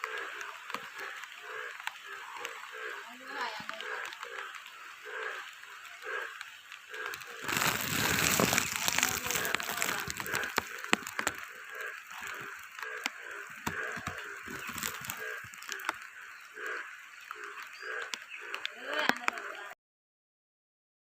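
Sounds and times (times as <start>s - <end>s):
low animal call: 0.0s - 19.6s
rain falling: 0.0s - 19.7s.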